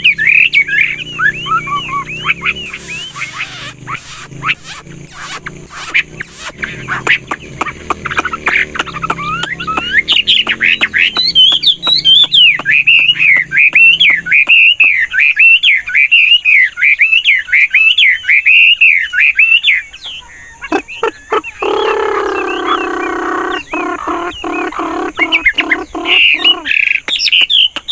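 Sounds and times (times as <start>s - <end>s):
bird warbling song: 0.0s - 27.9s.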